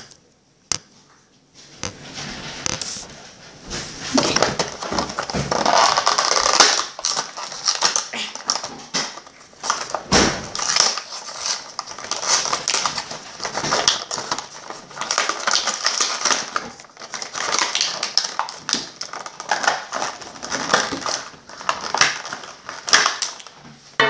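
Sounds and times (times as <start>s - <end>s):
packaging crackling and rustling: 1.8s - 24.0s.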